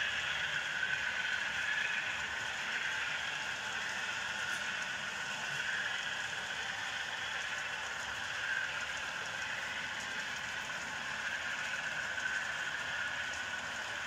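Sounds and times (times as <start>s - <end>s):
model train wheels rolling on rails: 0.0s - 14.0s.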